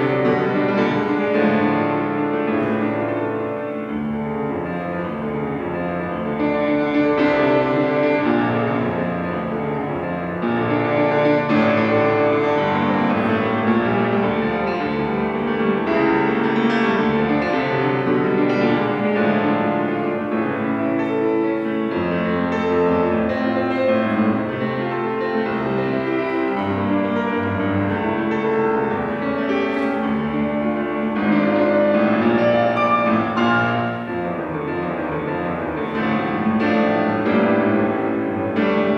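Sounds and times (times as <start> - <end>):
solo piano classical piece: 0.0 - 38.9.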